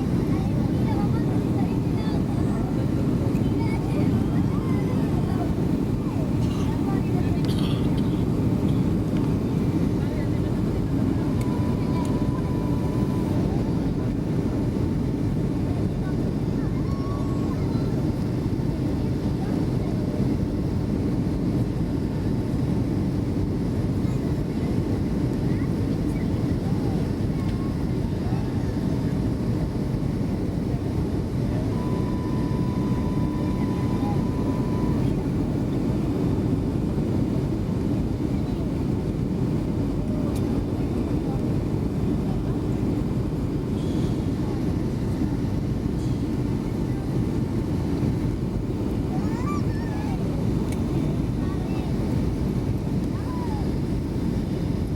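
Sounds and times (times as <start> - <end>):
aircraft cabin engine rumble: 0.0 - 54.9.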